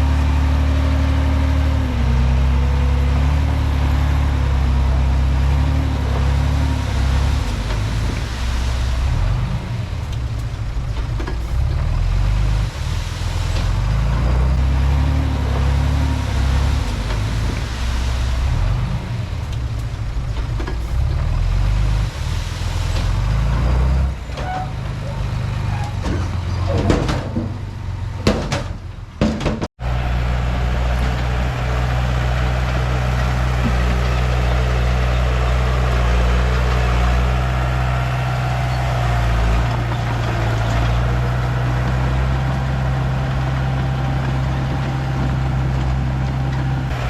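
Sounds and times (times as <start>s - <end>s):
bulldozer diesel engine under load: 0.0s - 47.0s.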